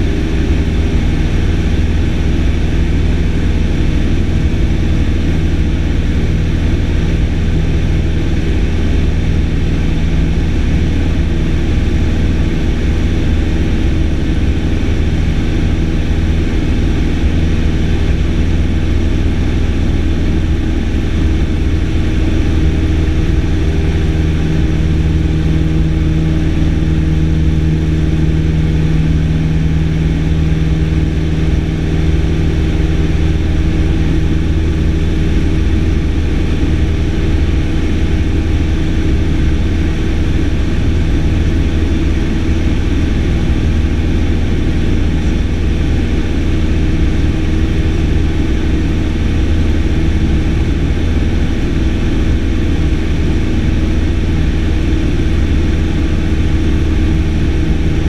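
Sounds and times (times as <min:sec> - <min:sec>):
light airplane engine droning: 0:00.0 - 0:58.0.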